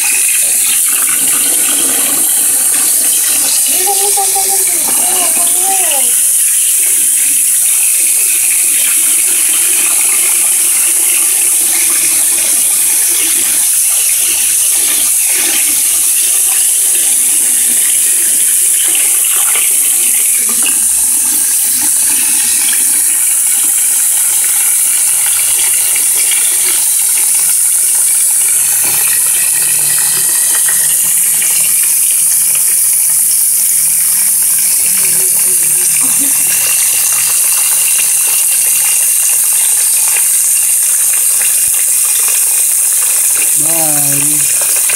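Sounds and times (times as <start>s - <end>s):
hose water splashing: 0.0s - 44.9s.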